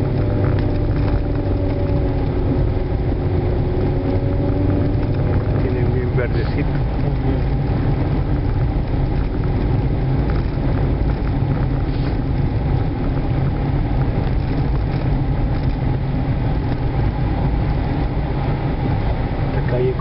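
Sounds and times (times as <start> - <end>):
car interior low rumble: 0.0 - 20.0.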